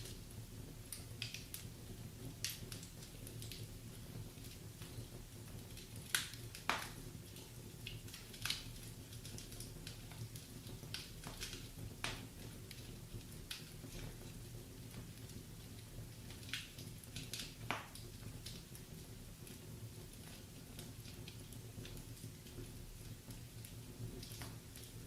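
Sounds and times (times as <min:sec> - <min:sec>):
firewood crackling: 0:00.0 - 0:25.0.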